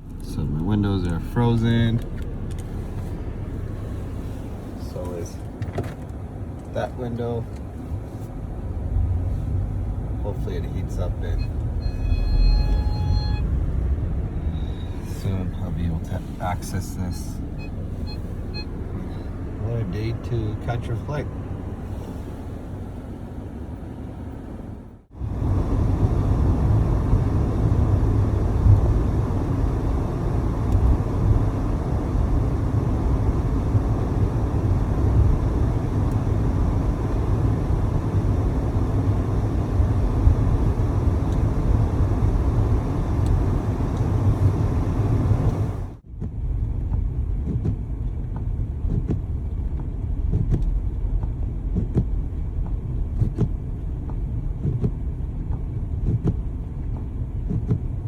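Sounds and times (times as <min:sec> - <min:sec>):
car rumble inside cabin: 0:00.0 - 0:58.0.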